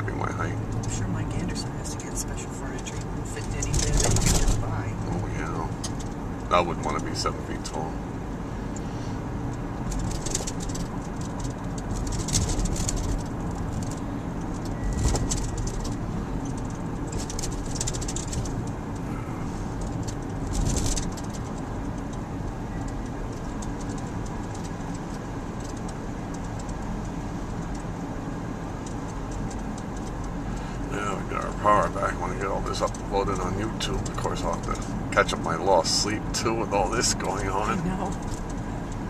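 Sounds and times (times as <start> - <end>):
road and engine rumble: 0.0 - 39.0.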